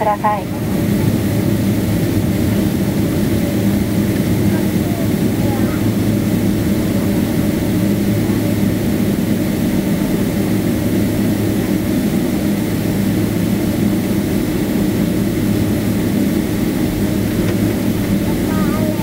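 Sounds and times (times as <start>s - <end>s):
jet cabin engine rumble: 0.0s - 19.0s
steady hum tones: 0.0s - 19.0s.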